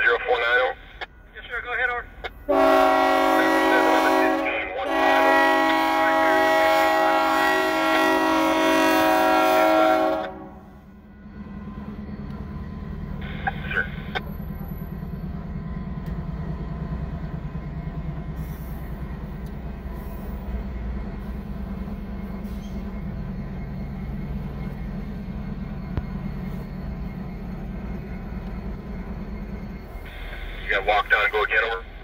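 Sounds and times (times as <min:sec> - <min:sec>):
locomotive engines droning: 0:00.0 - 0:32.0
train rumble: 0:00.0 - 0:32.0.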